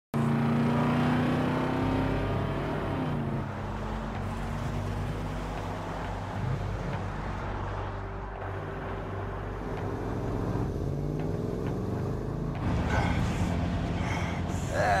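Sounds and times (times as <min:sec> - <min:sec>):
pickup truck engine drone: 0:00.1 - 0:15.0
road noise: 0:00.1 - 0:15.0.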